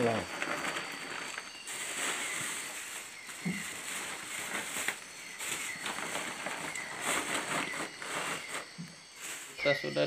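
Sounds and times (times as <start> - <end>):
night insects droning: 0.0 - 10.0.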